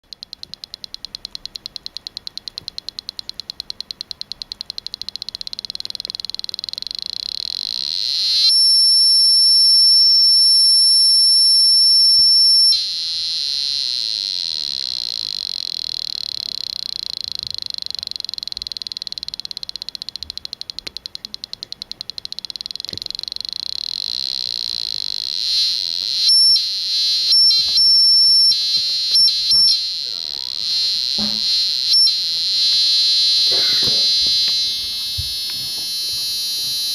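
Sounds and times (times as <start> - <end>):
piezo buzzer high-pitched tone: 0.1 - 36.9.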